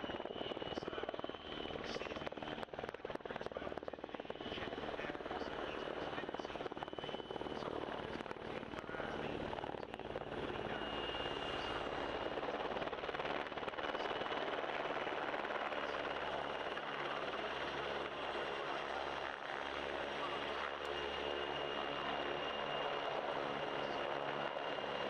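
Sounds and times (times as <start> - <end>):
helicopter rotor noise: 0.0 - 25.0.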